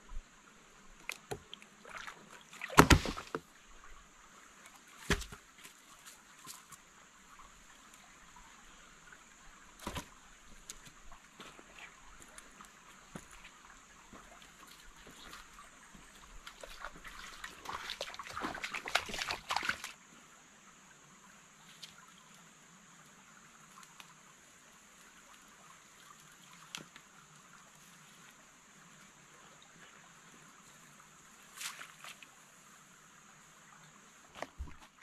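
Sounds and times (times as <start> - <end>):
stream trickling: 0.0 - 35.0.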